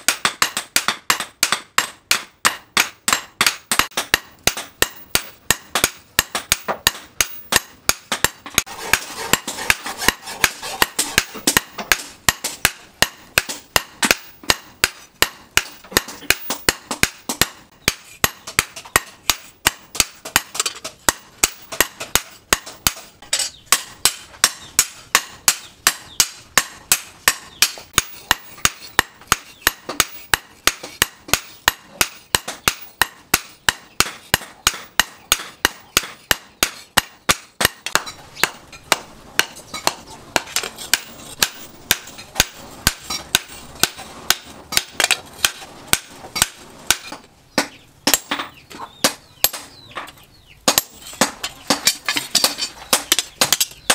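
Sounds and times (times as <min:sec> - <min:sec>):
hammer striking metal on anvil: 0:00.0 - 0:49.9.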